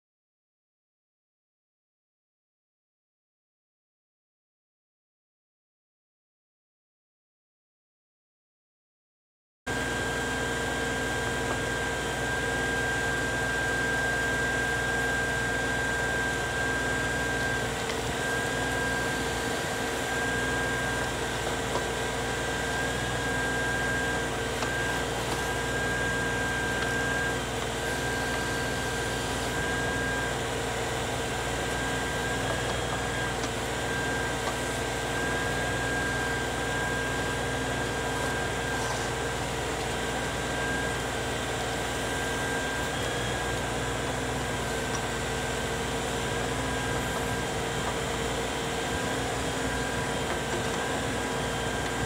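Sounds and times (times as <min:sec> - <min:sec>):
tractor engine and hydraulics hum: 0:09.7 - 0:52.0.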